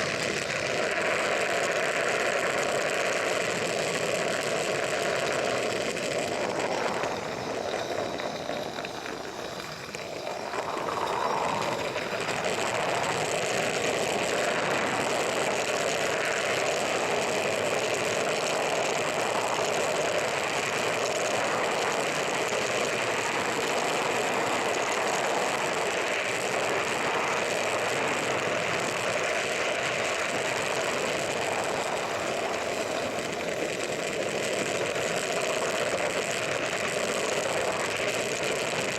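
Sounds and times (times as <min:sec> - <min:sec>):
model steam locomotive running: 0:00.0 - 0:38.9.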